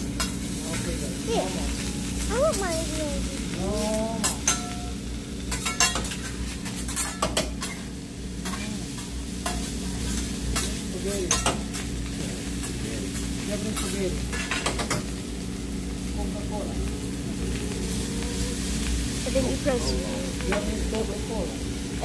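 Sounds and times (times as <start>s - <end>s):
food sizzling on a griddle: 0.0s - 22.0s.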